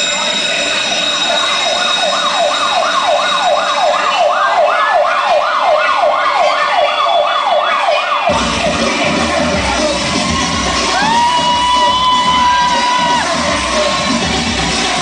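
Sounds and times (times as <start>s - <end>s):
siren wailing: 0.7s - 14.2s.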